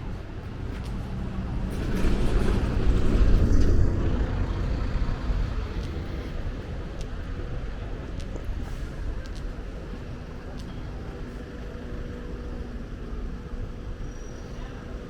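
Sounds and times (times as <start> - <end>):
heavy vehicle engine rumble: 0.0 - 15.0.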